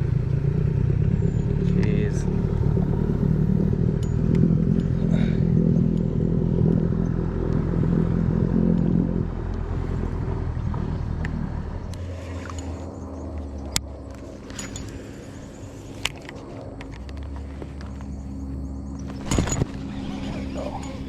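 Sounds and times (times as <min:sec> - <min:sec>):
motorboat engine rumbling: 0:00.0 - 0:21.0.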